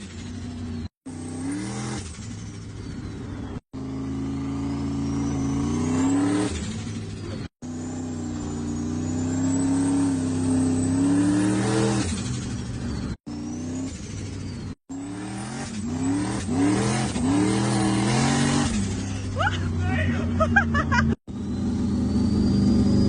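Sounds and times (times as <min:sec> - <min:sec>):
turbocharged car engine revving: 0:00.0 - 0:23.0.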